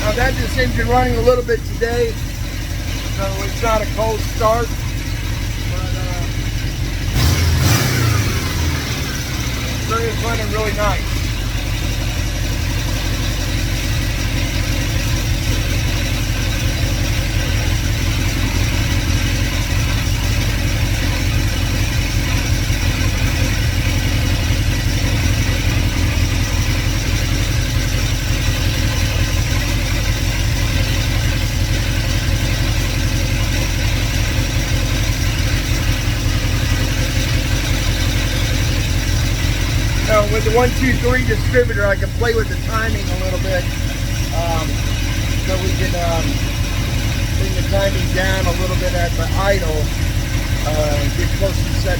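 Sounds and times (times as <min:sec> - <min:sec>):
engine idling: 0:00.0 - 0:51.9.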